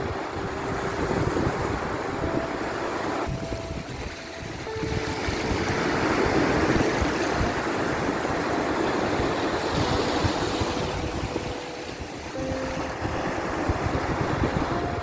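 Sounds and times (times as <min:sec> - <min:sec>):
sea surf washing in: 0:00.0 - 0:15.0.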